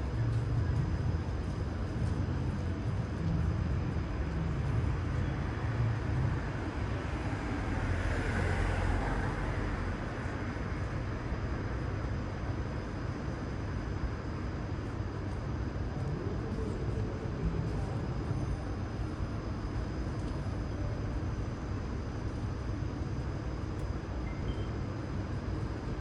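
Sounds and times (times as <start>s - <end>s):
low rumble of street traffic: 0.0s - 26.0s.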